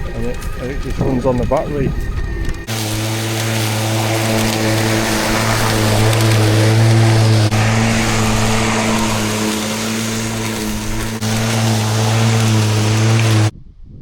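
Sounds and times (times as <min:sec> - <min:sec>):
electric mower motor humming: 0:00.0 - 0:13.5.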